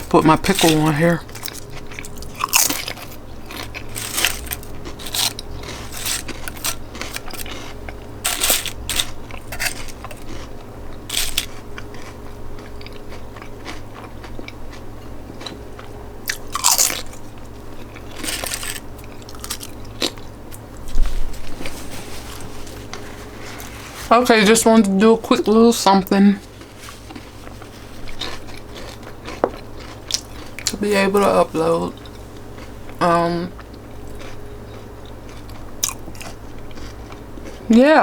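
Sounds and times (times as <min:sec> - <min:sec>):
person chewing crunchy food: 0:00.0 - 0:24.1, 0:26.4 - 0:37.8.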